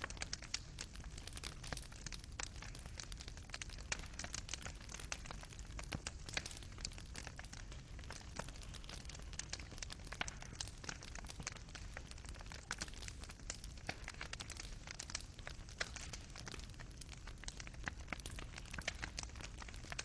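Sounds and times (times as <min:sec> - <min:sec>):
burning wood popping: 0:00.0 - 0:20.0
fireplace fire crackling: 0:00.0 - 0:20.0
low rumble of flames: 0:00.0 - 0:20.0.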